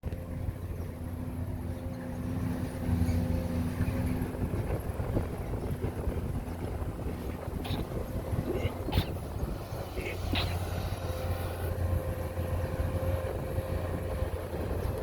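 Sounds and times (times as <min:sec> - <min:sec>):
engine running with low rumble: 0:00.0 - 0:15.0
wind noise on microphone: 0:02.4 - 0:15.0.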